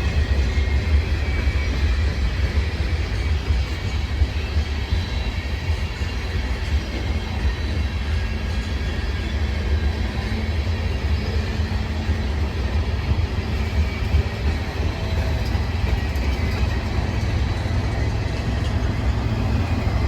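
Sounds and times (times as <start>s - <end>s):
faint high wheel squeal: 0.0s - 20.0s
train wheels rumbling on rails: 0.0s - 20.0s.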